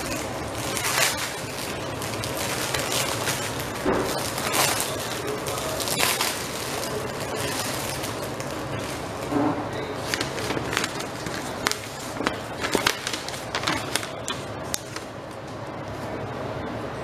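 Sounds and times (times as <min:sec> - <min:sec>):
plastic wrap crinkling: 0:00.0 - 0:16.1.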